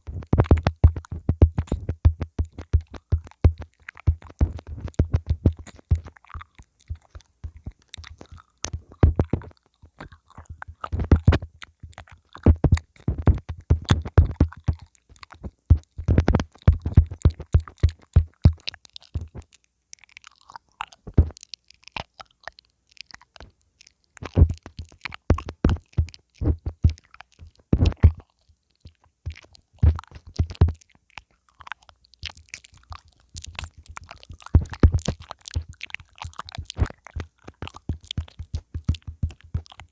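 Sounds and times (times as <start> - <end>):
mouth nibbling on microphone: 0.0 - 39.9.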